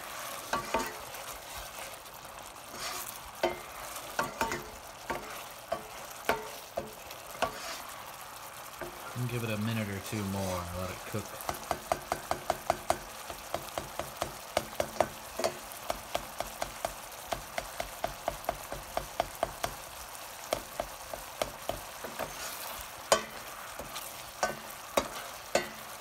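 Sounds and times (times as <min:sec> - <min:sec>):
spatula stirring sauce: 0:00.0 - 0:09.2, 0:09.9 - 0:26.0
thick sauce bubbling and popping: 0:00.0 - 0:09.2, 0:10.9 - 0:26.0
soft sizzle: 0:00.0 - 0:26.0.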